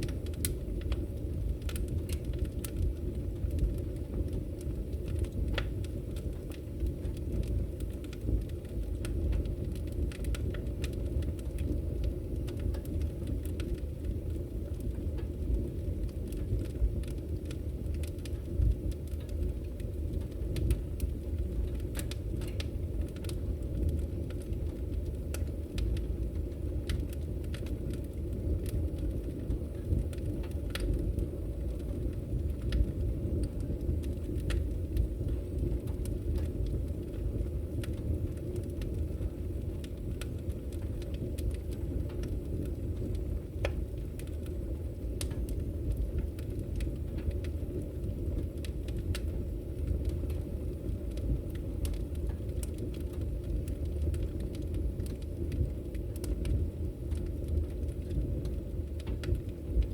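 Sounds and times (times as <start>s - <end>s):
firewood crackling and popping: 0.0s - 59.9s
low rumble of flames: 0.0s - 59.9s.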